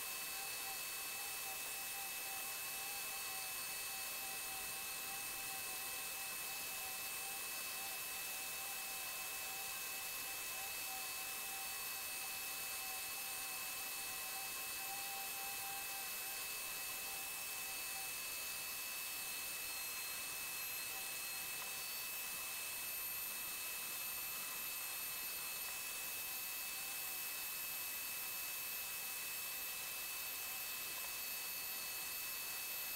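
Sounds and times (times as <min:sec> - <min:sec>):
rotary tool whining: 0:00.0 - 0:32.9.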